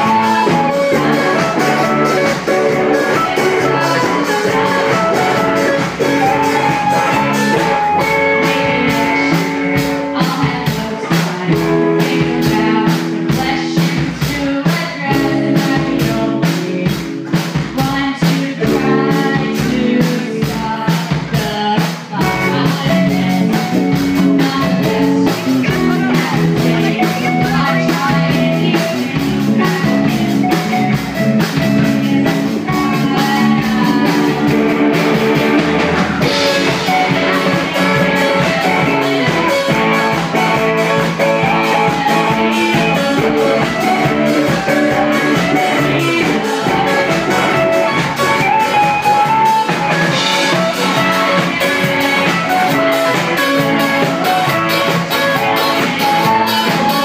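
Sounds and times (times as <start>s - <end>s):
bass guitar: 0.0s - 57.0s
drum kit: 0.0s - 57.0s
electric guitars: 0.0s - 57.0s
keyboard: 0.0s - 57.0s
woman singing: 0.0s - 57.0s.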